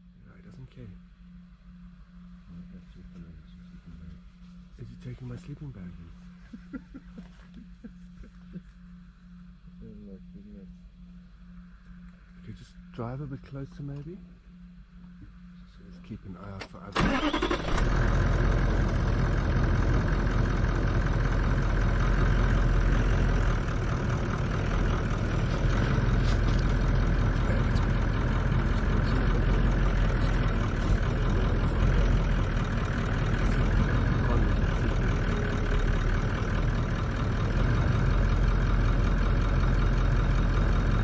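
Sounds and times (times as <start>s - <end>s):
vehicle engine idling: 0.0s - 41.0s.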